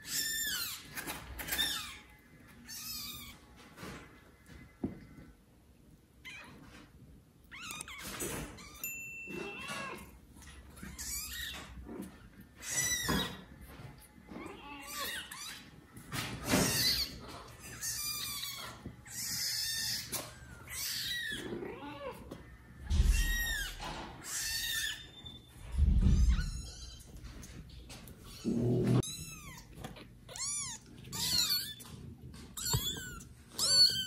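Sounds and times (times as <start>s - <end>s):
kittens meowing: 0.0s - 3.5s, 7.5s - 13.6s, 14.3s - 15.8s, 16.4s - 27.4s, 28.3s - 34.0s.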